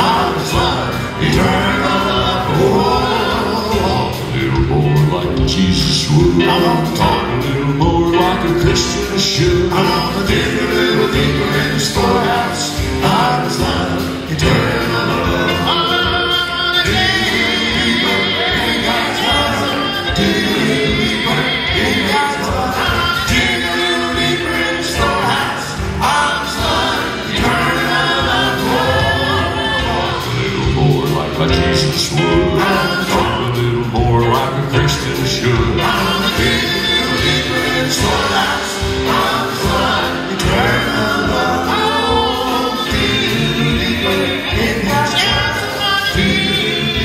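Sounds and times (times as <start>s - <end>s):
live band playing: 0.0s - 47.0s
male quartet singing in harmony: 0.0s - 47.0s.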